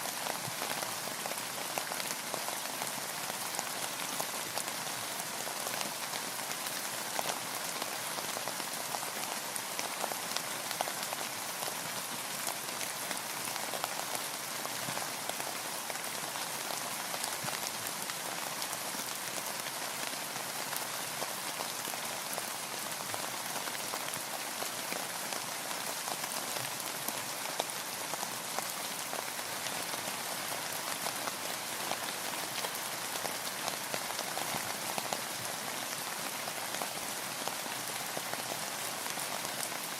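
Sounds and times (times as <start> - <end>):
rain falling on a boat: 0.0 - 39.9.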